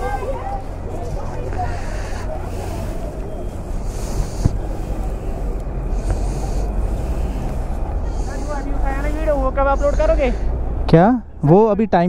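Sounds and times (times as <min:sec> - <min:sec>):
vehicle engine rumbling: 0:00.0 - 0:11.8.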